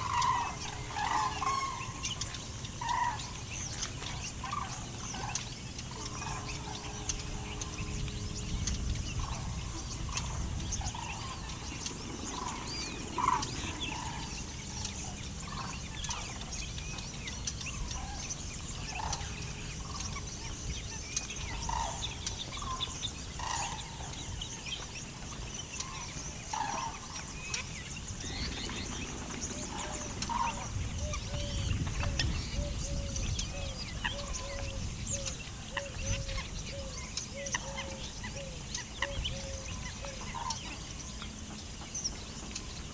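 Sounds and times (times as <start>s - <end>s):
birds calling and chirping: 0.0s - 42.9s.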